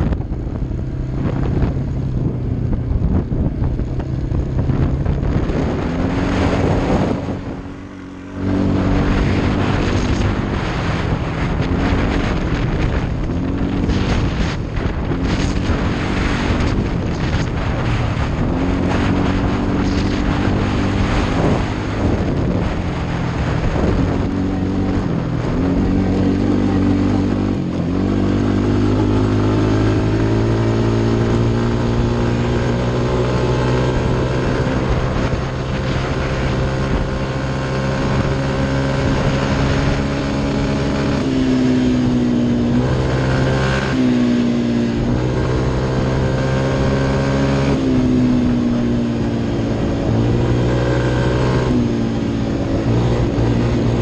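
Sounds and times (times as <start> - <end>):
motorcycle engine at high revs: 0.0 - 54.0
rushing wind: 0.0 - 54.0.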